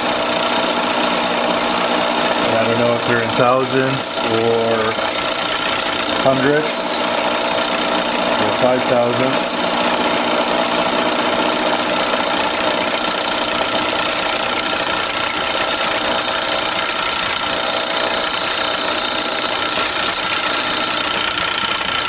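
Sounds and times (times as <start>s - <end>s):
metal lathe running: 0.0s - 22.0s.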